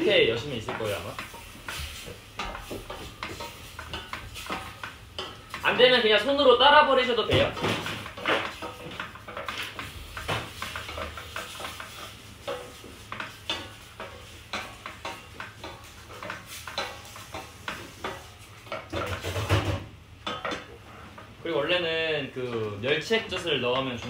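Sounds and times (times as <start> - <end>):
meat sizzling: 0.0 - 20.8
wooden spatula scraping pot: 0.0 - 21.6.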